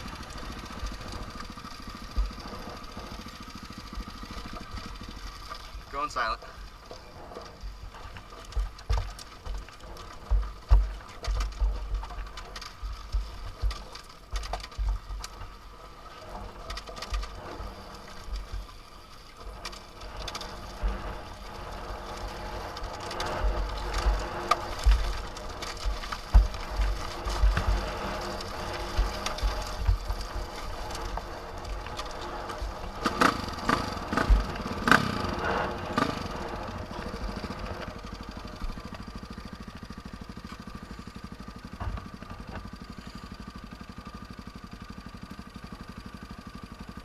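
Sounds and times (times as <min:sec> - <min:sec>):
dirt bike engine running: 0:00.0 - 0:47.0.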